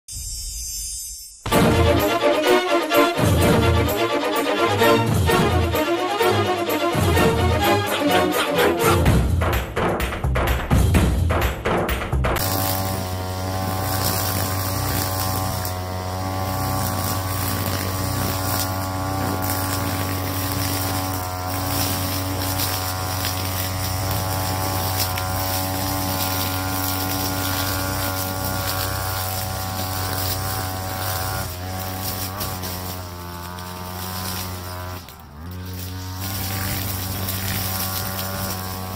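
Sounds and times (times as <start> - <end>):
brush cutter cutting grass: 1.5 - 9.2, 12.4 - 38.9.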